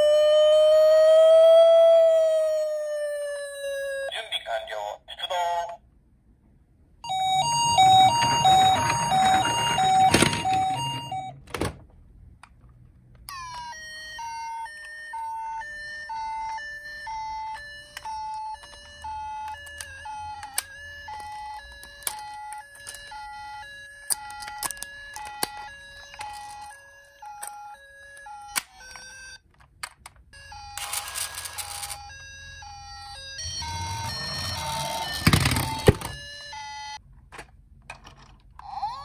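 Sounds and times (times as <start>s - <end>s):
toy siren two-tone call: 0.0s - 4.1s, 7.0s - 11.4s, 13.3s - 29.4s, 30.4s - 37.0s.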